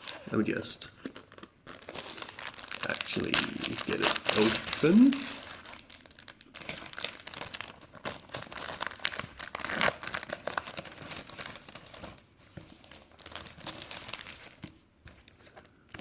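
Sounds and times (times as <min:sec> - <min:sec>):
packaging crinkling and tearing: 0:00.0 - 0:16.0.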